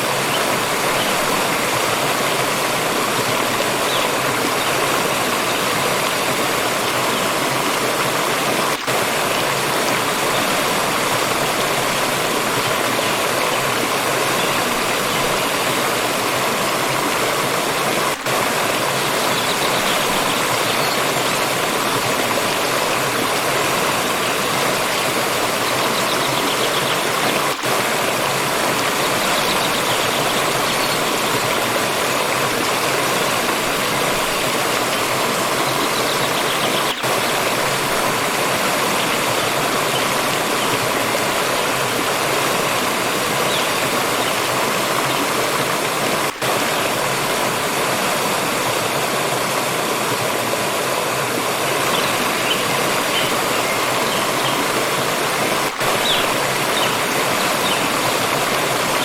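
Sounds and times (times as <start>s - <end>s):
water stream rushing: 0.0s - 59.0s.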